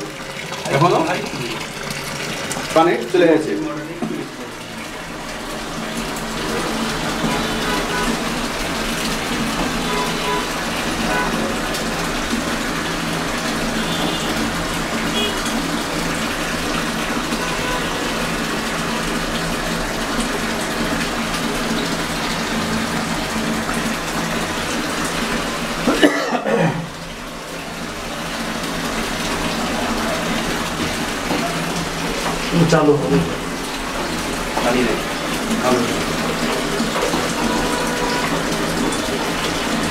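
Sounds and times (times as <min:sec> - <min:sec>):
water draining from washing machine: 0:00.0 - 0:39.9.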